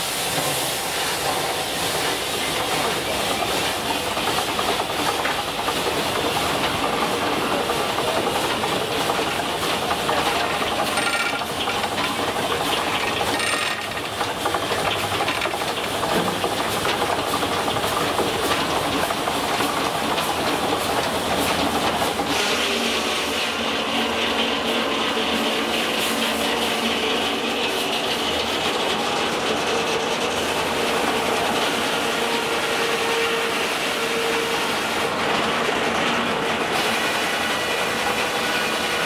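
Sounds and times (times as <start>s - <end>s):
steam engine and saw carriage: 0.0s - 39.0s
steam hissing: 0.0s - 39.0s.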